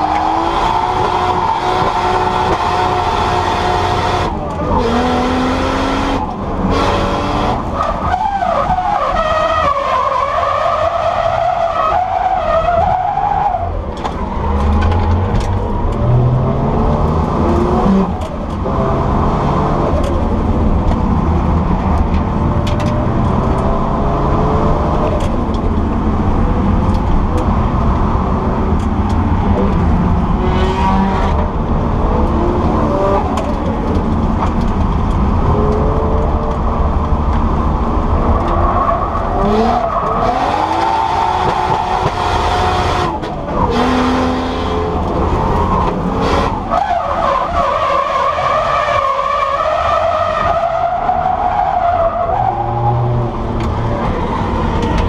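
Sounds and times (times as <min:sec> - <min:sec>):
car engine revving: 0:00.0 - 0:12.9, 0:13.9 - 0:55.0.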